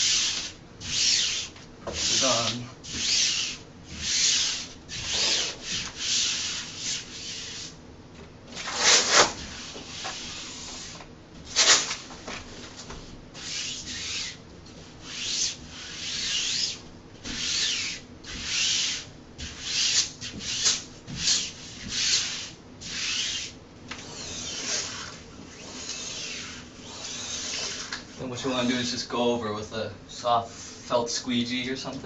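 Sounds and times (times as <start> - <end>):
hissy rubbing strokes on wall: 0.0 - 7.8, 8.7 - 28.9, 30.2 - 31.2.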